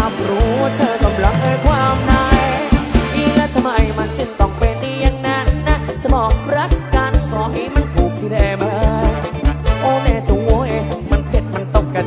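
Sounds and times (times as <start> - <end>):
deep bass line: 0.0 - 12.0
man singing into microphone: 0.0 - 12.0.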